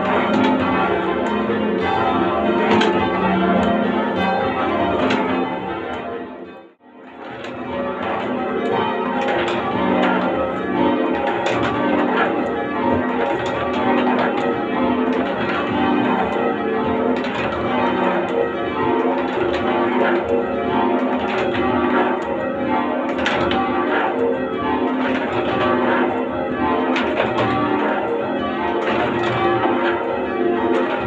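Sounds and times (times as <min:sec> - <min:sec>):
church bells change ringing: 0:00.0 - 0:31.0.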